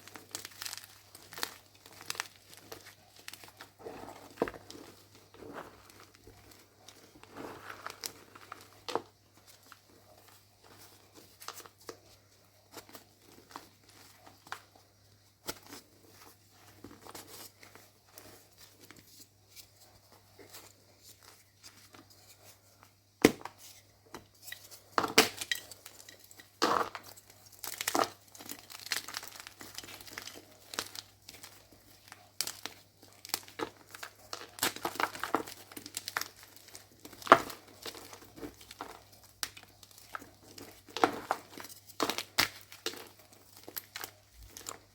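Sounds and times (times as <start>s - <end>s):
chalk crunching and crackling: 0.0s - 22.9s, 24.6s - 44.9s.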